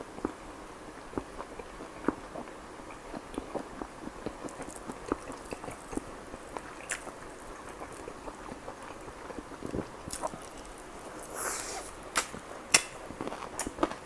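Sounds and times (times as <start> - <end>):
chewing with wet mouth clicks: 1.1 - 14.0.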